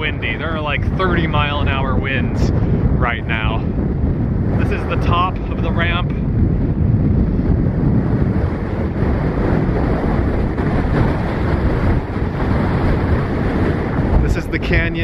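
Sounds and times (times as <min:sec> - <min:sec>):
wind gusting across microphone: 0:00.0 - 0:15.0.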